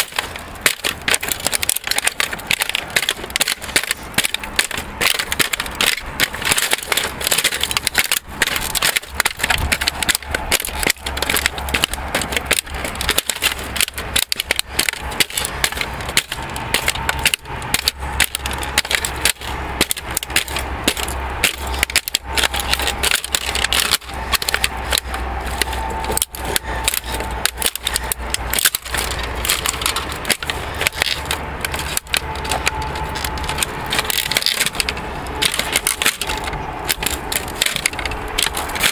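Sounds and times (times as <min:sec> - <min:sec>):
plastic cracking and crunching: 0:00.0 - 0:38.9
steady low hum: 0:00.0 - 0:38.9.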